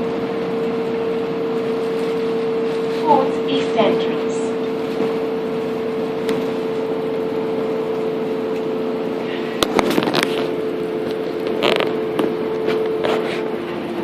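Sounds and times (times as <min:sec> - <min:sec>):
bus engine droning hum: 0:00.0 - 0:14.0
road noise: 0:00.0 - 0:14.0.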